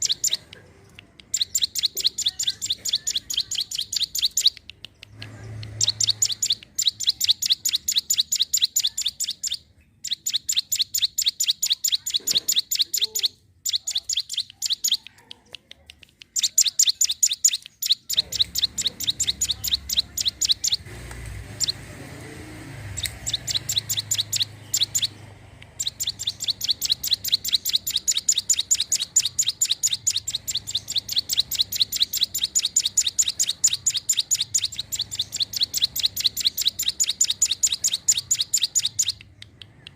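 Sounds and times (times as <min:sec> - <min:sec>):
bird sharp high chirps: 0:00.0 - 0:21.9, 0:22.8 - 0:39.9.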